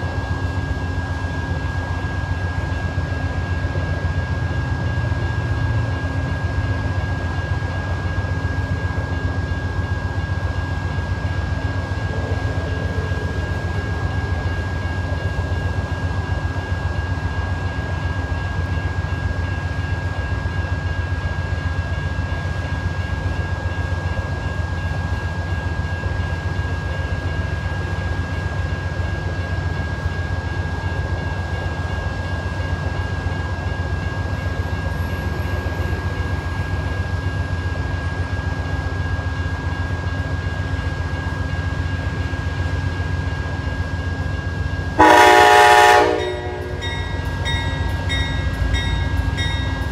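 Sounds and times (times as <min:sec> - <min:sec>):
crossing warning bell: 0:00.0 - 0:49.9
diesel locomotive rumbling: 0:00.0 - 0:49.9.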